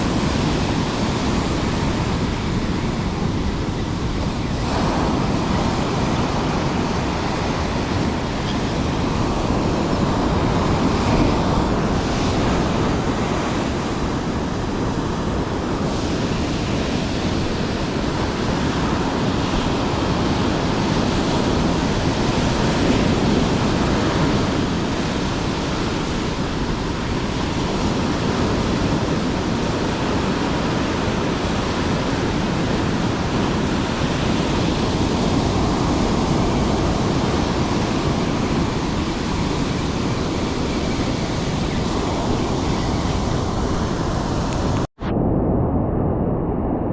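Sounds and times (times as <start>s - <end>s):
surf breaking on shore: 0.0s - 45.1s
wind on microphone: 0.0s - 46.9s.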